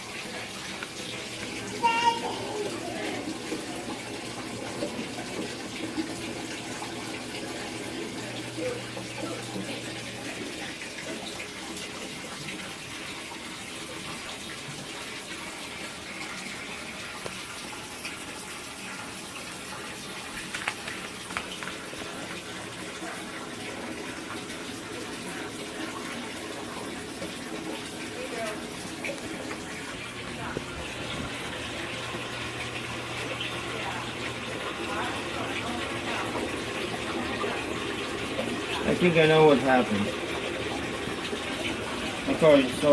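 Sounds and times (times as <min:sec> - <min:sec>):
washing machine running: 0:00.0 - 0:42.9
water rushing into tub: 0:00.0 - 0:42.9.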